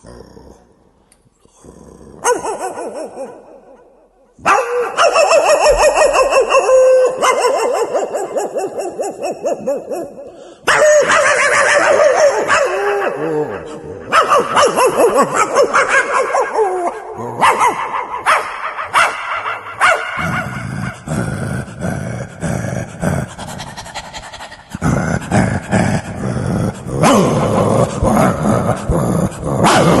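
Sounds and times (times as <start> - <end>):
person imitating dog: 1.5 - 30.0.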